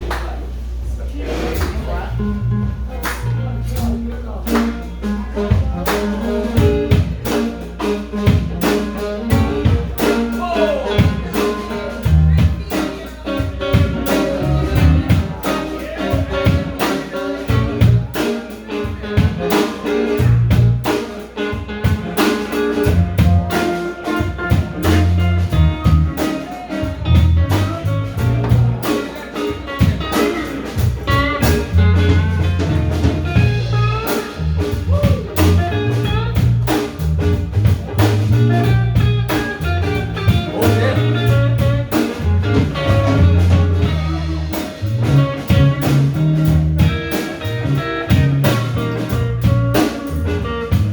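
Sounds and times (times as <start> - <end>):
bass: 0.0 - 50.9
guitar lines: 1.3 - 50.9
steady drum beat: 2.9 - 50.9.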